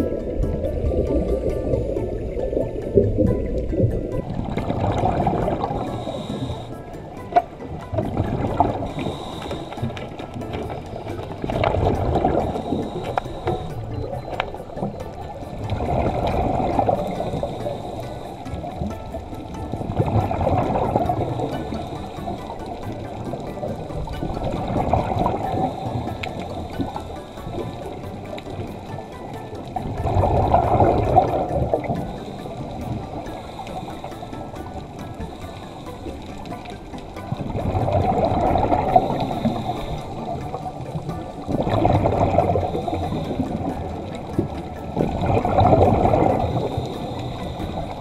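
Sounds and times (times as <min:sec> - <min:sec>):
underwater rushing and bubbling: 0:00.0 - 0:48.0.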